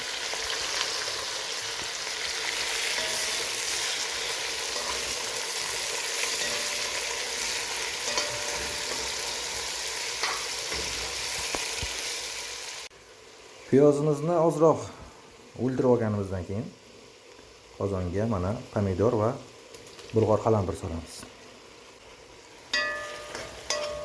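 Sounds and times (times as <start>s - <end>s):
onion sizzling in hot oil: 0.0s - 24.0s.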